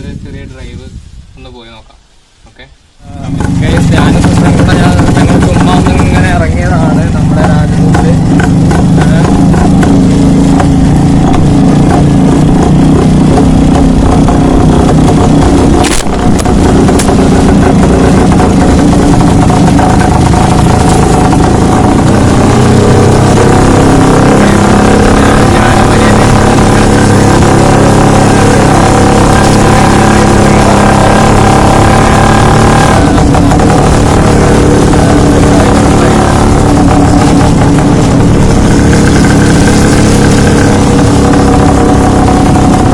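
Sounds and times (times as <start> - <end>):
motorcycle engine revving: 3.2 - 42.9.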